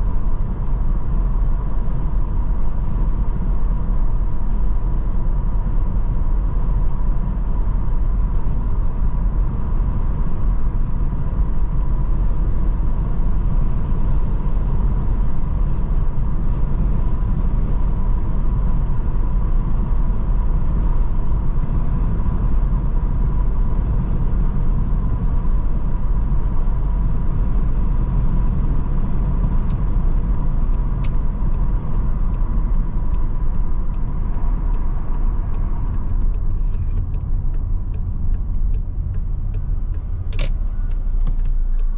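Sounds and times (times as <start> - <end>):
road and engine rumble: 0.0 - 41.9.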